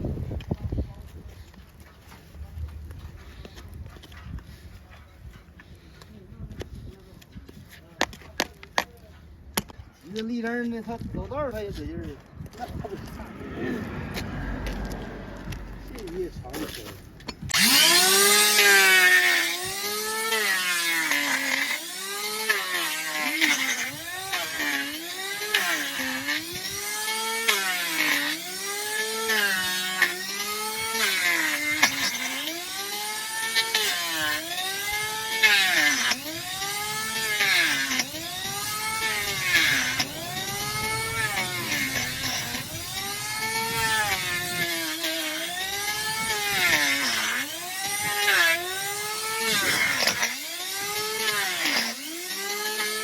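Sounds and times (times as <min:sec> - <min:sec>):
power tool grinding hoof: 0:09.6 - 0:53.0.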